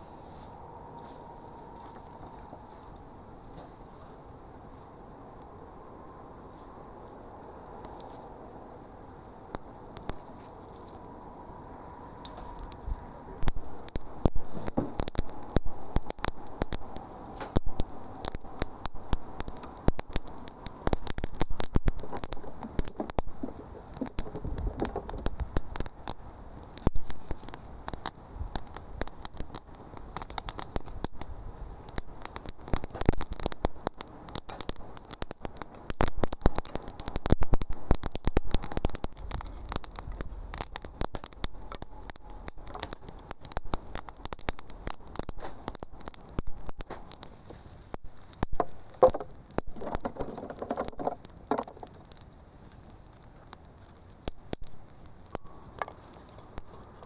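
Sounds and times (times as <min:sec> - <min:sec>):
wood fire crackling and popping: 0:08.9 - 0:57.0.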